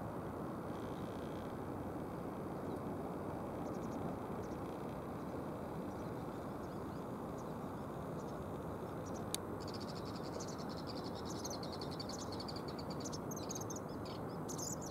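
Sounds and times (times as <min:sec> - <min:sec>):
low background noise: 0:00.0 - 0:14.9.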